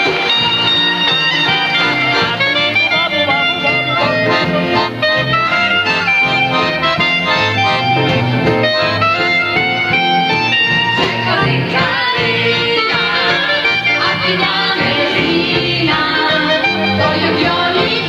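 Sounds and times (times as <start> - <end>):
repeating bass line: 0.0 - 18.0
saxophone melody: 0.0 - 18.0.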